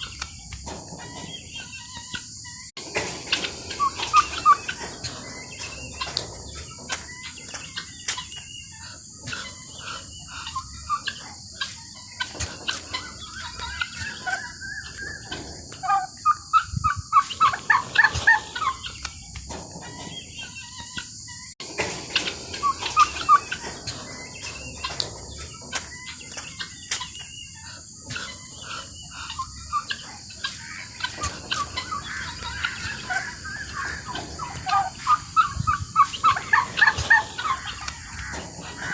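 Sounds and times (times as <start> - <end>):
poultry clucking: 0.0 - 38.9
steady high-pitched hiss: 0.0 - 38.9.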